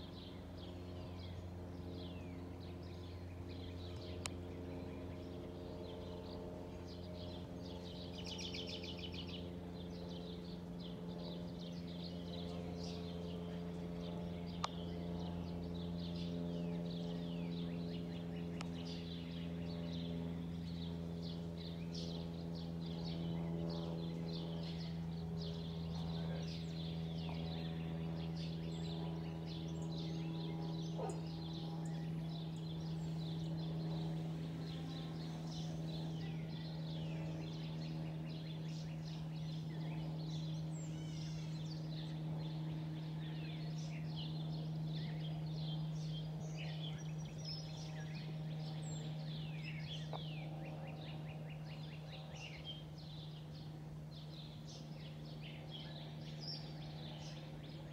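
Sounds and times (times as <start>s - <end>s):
birds chirping and singing: 0.0s - 57.9s
light aircraft droning overhead: 0.0s - 57.9s.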